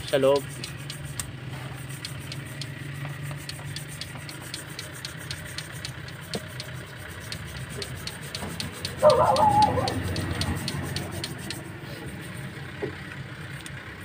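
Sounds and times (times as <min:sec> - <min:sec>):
toothbrush scrubbing ticking: 0:00.0 - 0:12.5
low engine hum: 0:00.0 - 0:14.0.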